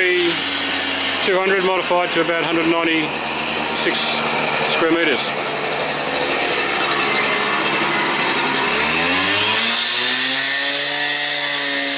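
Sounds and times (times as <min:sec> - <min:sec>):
concrete saw grinding hiss: 0:00.0 - 0:11.9
saw engine revving: 0:00.0 - 0:11.9.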